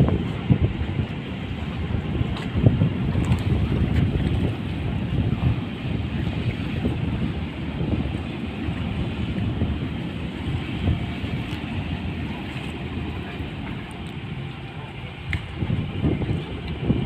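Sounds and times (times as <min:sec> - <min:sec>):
ship engines rumbling: 0:00.0 - 0:17.0
wind buffeting microphone: 0:00.0 - 0:17.0.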